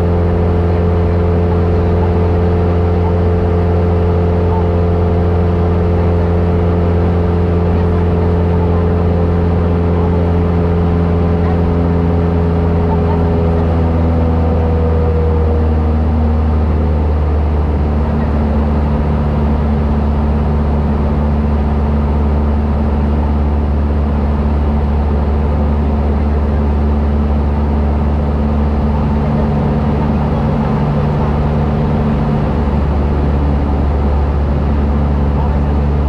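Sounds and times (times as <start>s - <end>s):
aircraft engine droning in cabin: 0.0s - 36.0s.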